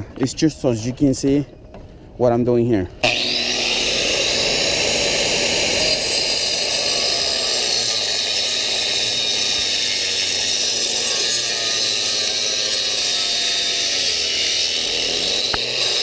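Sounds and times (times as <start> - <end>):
angle grinder cutting: 3.0 - 16.0.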